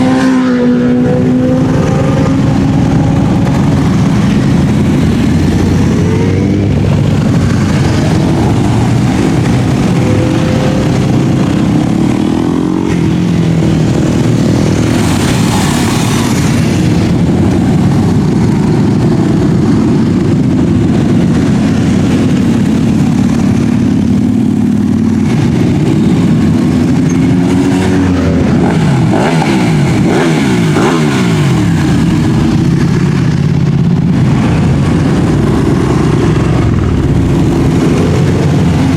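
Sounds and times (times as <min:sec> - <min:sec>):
motorcycles riding past: 0:00.0 - 0:38.9.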